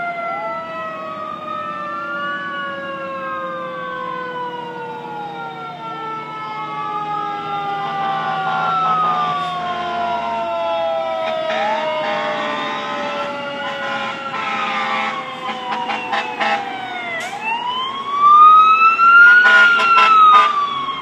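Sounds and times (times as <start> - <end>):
emergency vehicle sirens wailing: 0.0 - 21.0.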